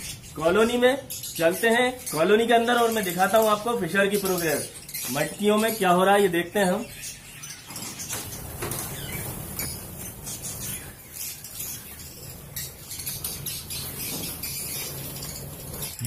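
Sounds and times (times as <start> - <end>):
birds chirping and squeaking: 0.0 - 16.0.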